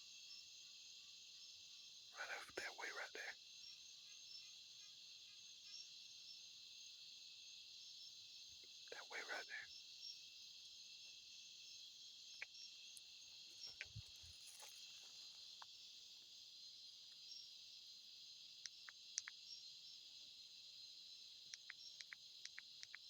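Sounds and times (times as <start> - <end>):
night insects chorus: 0.0 - 23.0.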